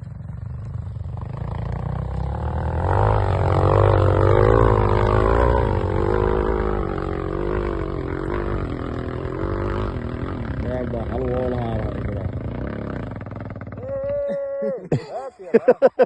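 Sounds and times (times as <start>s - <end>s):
motorcycle engine revving hard: 0.2s - 14.3s.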